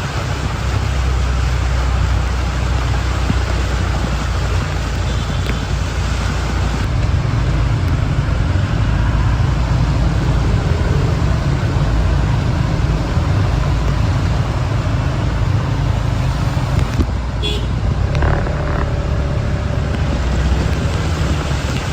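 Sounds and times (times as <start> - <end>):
heavy rain on a flooded street: 0.0 - 21.9
road traffic rumble: 0.0 - 21.9.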